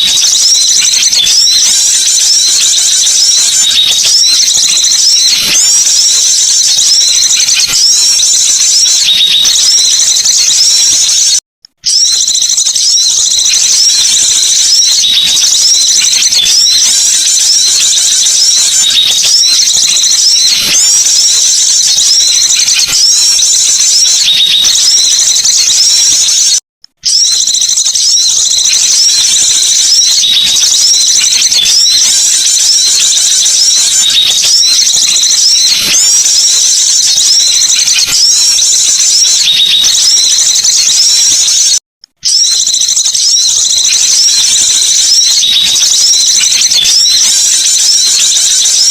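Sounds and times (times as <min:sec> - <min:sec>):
flock of songbirds chirping: 0:00.0 - 0:48.9.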